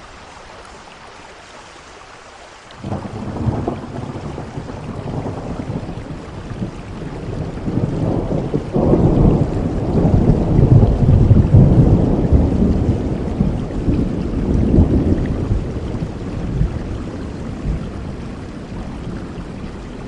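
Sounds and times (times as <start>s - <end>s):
steady rain: 0.0s - 20.0s
thunder rumbling: 2.8s - 20.0s.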